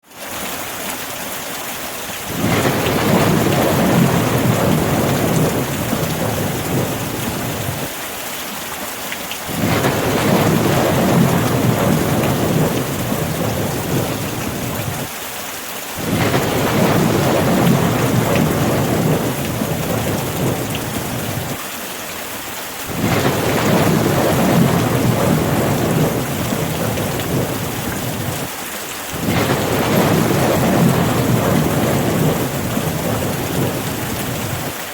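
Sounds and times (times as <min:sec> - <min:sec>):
steady rain: 0:00.0 - 0:34.9
rolling thunder: 0:02.3 - 0:07.9, 0:09.5 - 0:15.1, 0:16.0 - 0:21.6, 0:22.9 - 0:28.5, 0:29.1 - 0:34.7.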